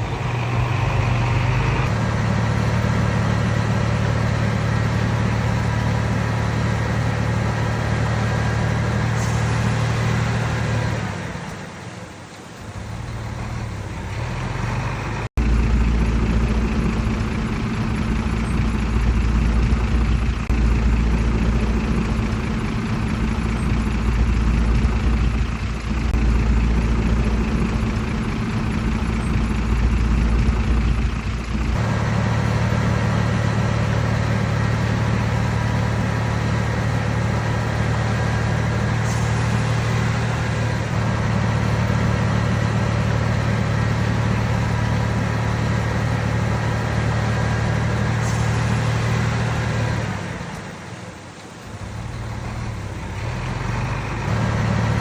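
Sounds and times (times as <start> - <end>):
deeper louder engine: 0.0 - 55.0
heavy diesel engine running: 0.0 - 55.0.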